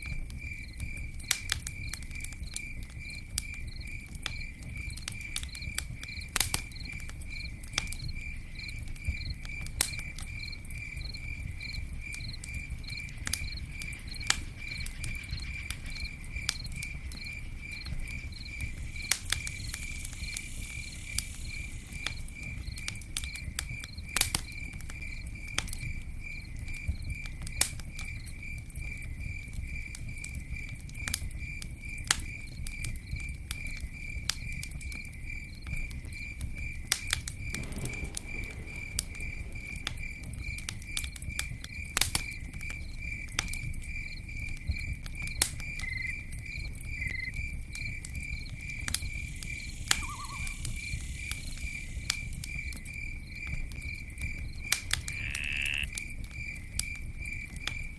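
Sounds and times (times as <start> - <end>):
campfire crackling and popping: 0.0 - 57.9
cricket chirping: 0.0 - 57.9.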